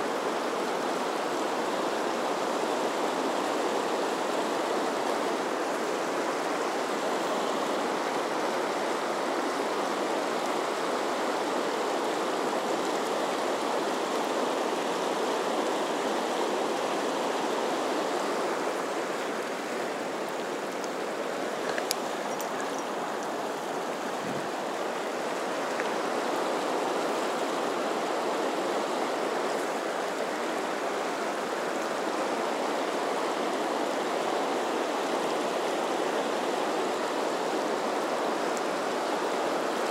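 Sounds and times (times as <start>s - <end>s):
fast river current rushing: 0.0s - 39.9s.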